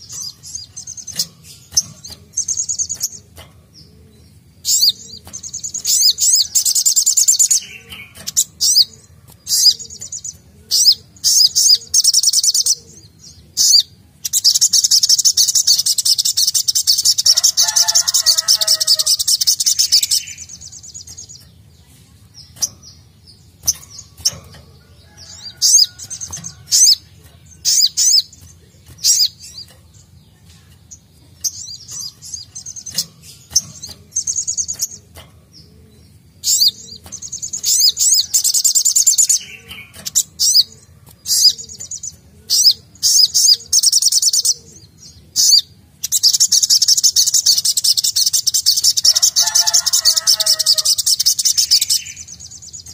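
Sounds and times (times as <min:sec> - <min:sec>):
bird chirps: 0:00.0 - 0:52.9
bird twittering trills: 0:00.0 - 0:52.9.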